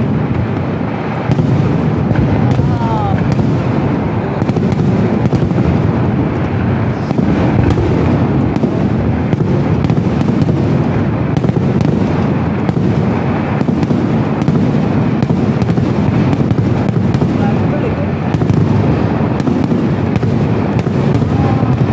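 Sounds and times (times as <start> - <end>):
fireworks bangs: 0.0 - 21.9
sharp firework cracks: 0.0 - 21.9.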